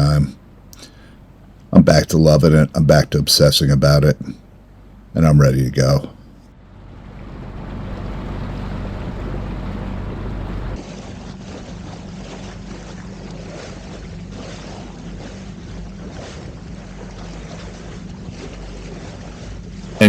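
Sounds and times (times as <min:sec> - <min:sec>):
boat motor humming: 0:00.0 - 0:20.0
water noise: 0:00.0 - 0:20.0
wind: 0:00.0 - 0:20.0.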